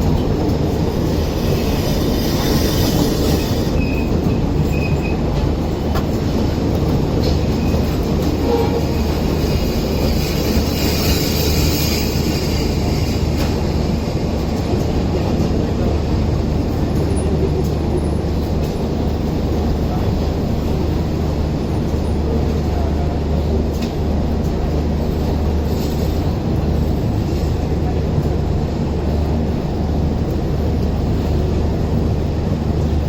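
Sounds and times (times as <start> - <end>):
passenger train rumbling: 0.0 - 33.0.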